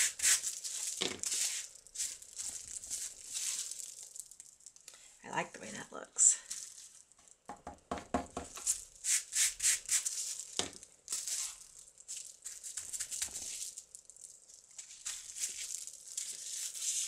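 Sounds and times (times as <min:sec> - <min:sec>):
bubble wrap crinkling: 0:00.0 - 0:05.1, 0:06.3 - 0:07.5, 0:08.4 - 0:17.0.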